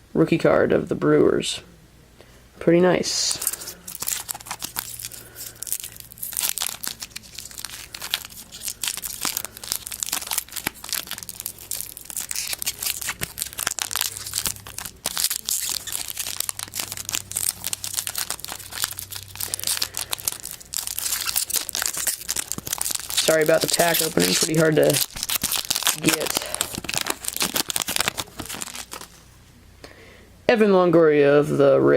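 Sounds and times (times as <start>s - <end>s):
foil wrapper crinkling and tearing: 3.2s - 29.3s.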